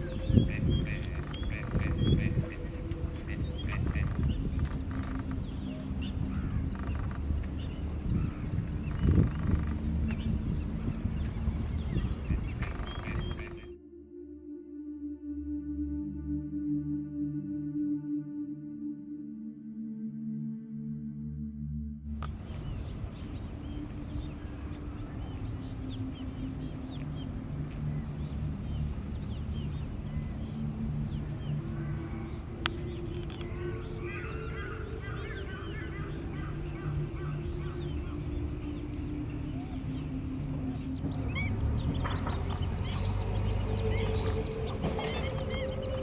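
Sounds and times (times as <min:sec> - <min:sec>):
steady low hum: 0:00.0 - 0:13.8, 0:22.1 - 0:46.0
wetland birds calling: 0:00.0 - 0:13.8, 0:22.2 - 0:46.0.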